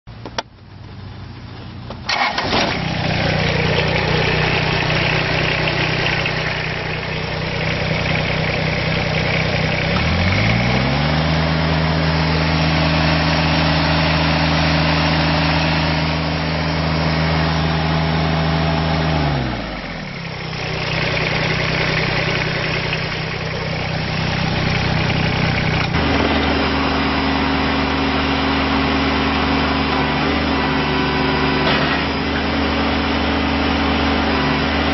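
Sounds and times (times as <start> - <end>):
tractor engine idling and revving: 0.1 - 34.9
starter cranking diesel engine: 1.9 - 34.9.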